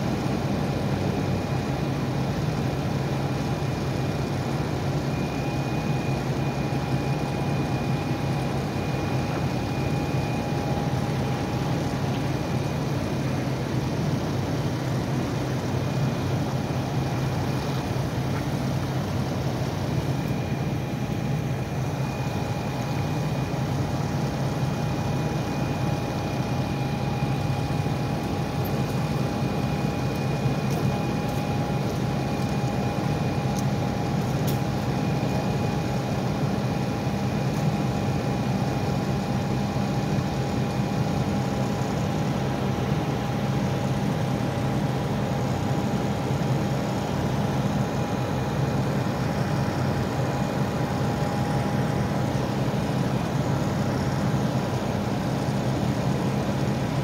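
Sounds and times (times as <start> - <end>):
heavy vehicle engines idling: 0.0 - 57.0
thin high whine: 3.3 - 56.8.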